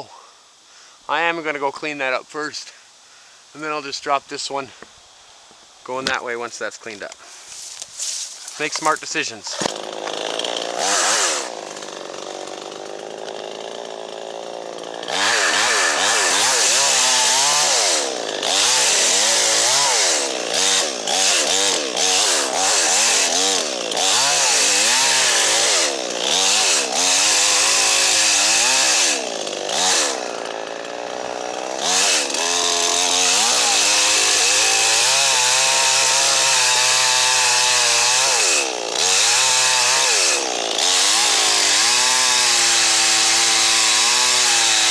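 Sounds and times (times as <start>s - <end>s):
chainsaw idling: 8.4s - 44.9s
chainsaw cutting at full throttle: 8.5s - 44.9s.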